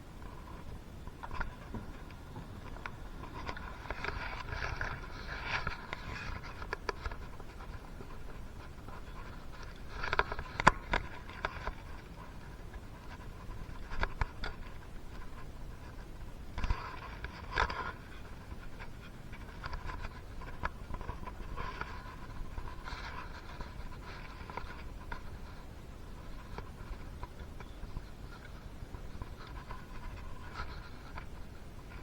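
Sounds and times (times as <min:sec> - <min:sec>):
scraping and rustling on engine parts: 0:00.0 - 0:32.0.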